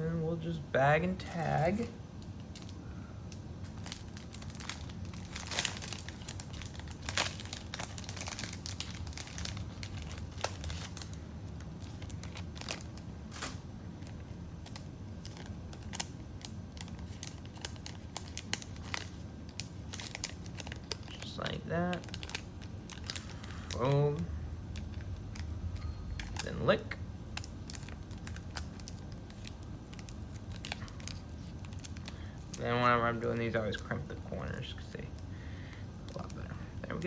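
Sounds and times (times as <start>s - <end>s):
plastic bag crinkling: 1.2s - 2.8s, 3.6s - 37.0s.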